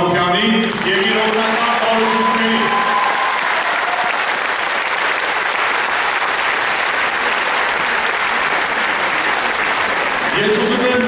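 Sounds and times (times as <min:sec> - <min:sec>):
crowd applauding: 0:00.5 - 0:11.0.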